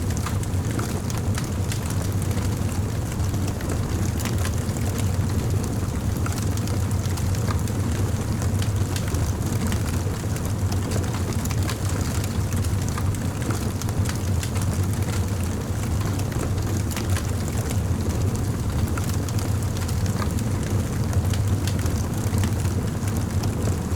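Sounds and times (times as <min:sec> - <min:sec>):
wood crackling in campfire: 0:00.0 - 0:23.9.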